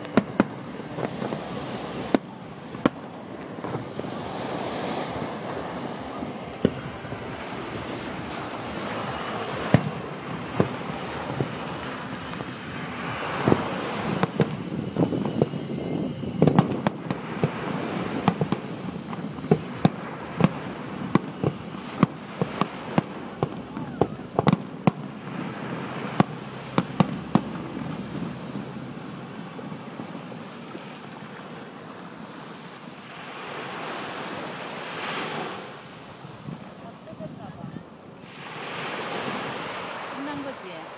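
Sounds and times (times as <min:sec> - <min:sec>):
fireworks bangs and crackles: 0:00.0 - 0:31.6, 0:36.2 - 0:37.6
waves breaking on beach: 0:00.0 - 0:40.9.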